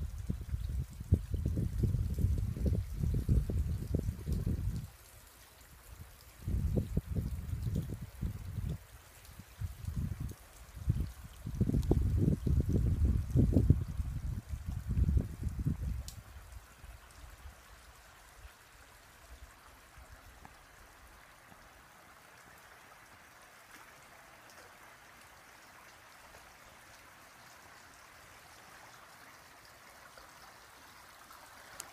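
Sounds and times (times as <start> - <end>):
light drip-like ticks: 0.0 - 31.9
river water trickling: 0.0 - 31.9.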